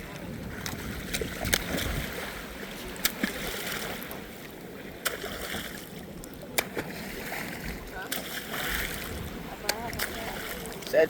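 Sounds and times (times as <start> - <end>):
sea water sloshing and lapping: 0.0 - 11.0.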